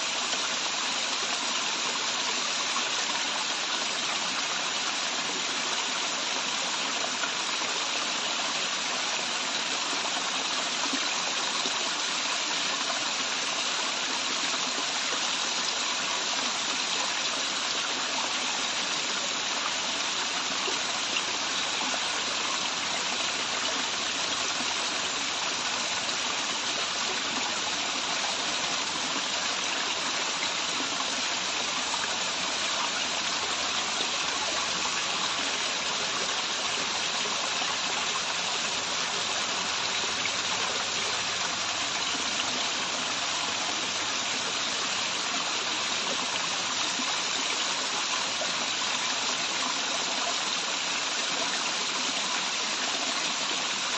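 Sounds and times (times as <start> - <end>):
small waterfall rushing: 0.0 - 53.9.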